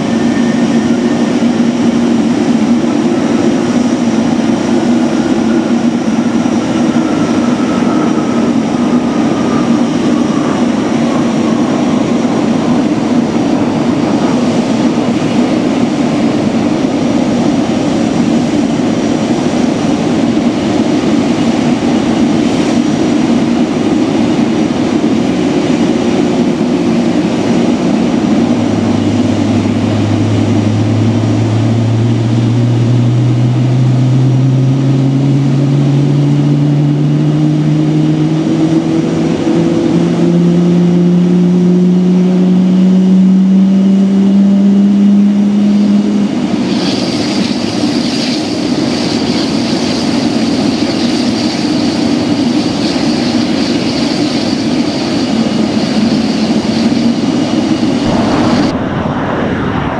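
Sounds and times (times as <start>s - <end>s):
constant low rumble: 0.0s - 40.6s, 44.8s - 59.9s
jet engine spooling up: 0.0s - 44.0s, 44.8s - 59.9s.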